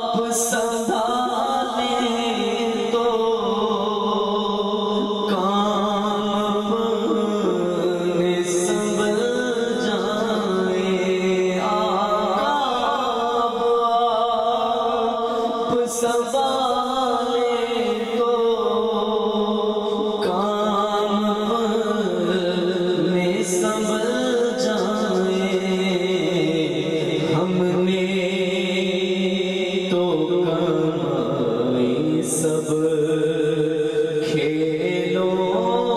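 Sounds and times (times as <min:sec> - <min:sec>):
man singing through microphone: 0:00.0 - 0:35.9.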